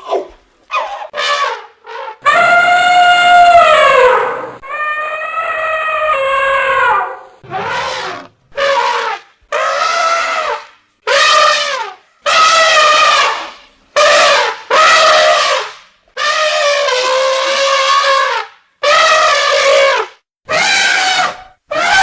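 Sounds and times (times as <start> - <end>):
elephant trumpeting: 0.7 - 22.0.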